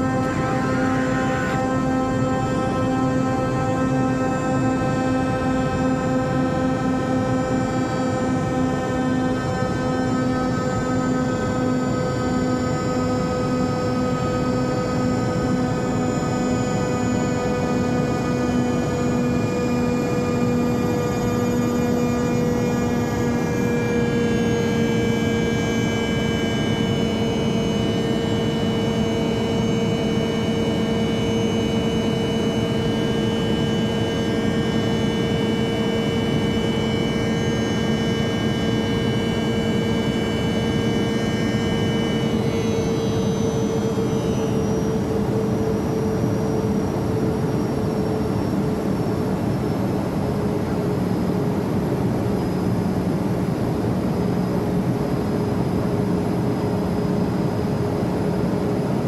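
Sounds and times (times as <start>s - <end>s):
jet engine roar: 0.0s - 59.0s
jet engine whining tones: 0.0s - 59.0s.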